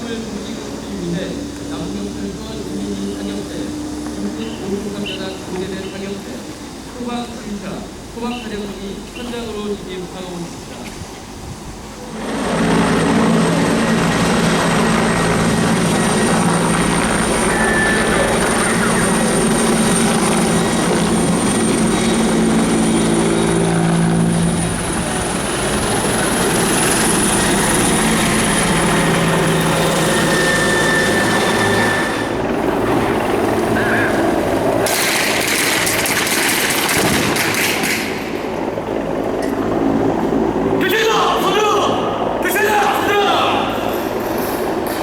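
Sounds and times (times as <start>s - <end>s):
helicopter rotors droning: 0.0s - 45.0s
turbine whine: 0.0s - 45.0s.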